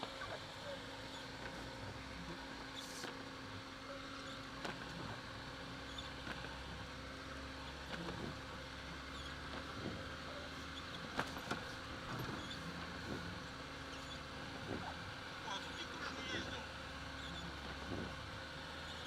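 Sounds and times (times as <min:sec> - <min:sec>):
car engine and drivetrain hum: 0:00.0 - 0:19.0
road noise: 0:00.0 - 0:19.0.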